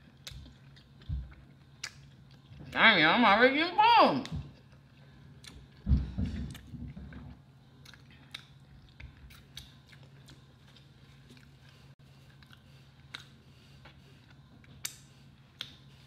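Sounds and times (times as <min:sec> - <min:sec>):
chewing food: 0:00.0 - 0:02.8, 0:04.2 - 0:16.0.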